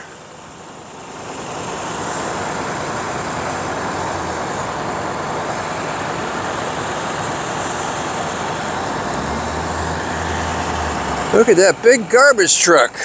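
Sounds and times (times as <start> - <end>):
large truck running: 0.0 - 13.0.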